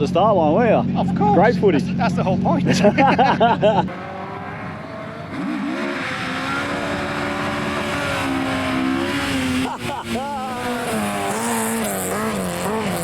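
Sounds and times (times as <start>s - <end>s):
rally car engine running: 0.0s - 13.0s.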